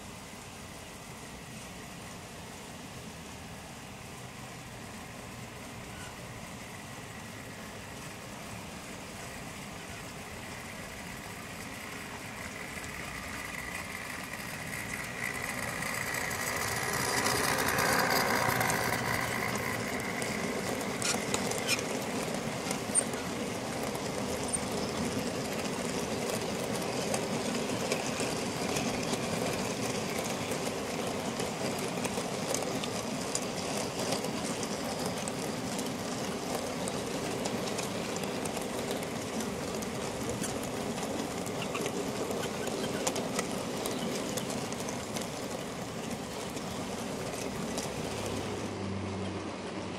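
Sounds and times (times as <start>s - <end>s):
model locomotive diesel engine: 0.0s - 49.9s
model wagons rumbling past: 4.0s - 49.9s
wheels clicking over points: 8.4s - 48.7s.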